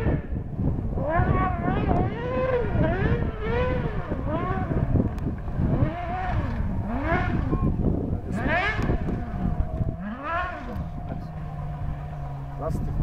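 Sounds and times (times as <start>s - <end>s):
buggy engine revving: 0.0s - 13.0s.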